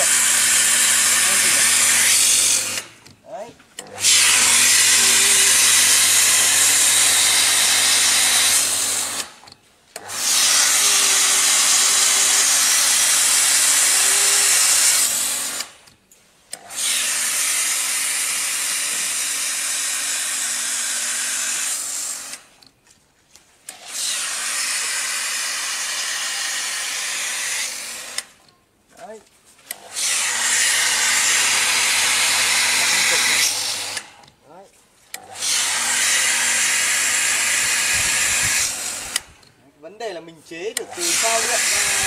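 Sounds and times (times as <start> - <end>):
water spraying from spray gun: 0.0 - 3.0, 3.8 - 9.4, 10.0 - 15.7, 16.6 - 22.5, 23.7 - 28.4, 29.7 - 34.2, 35.2 - 39.3, 40.7 - 42.0.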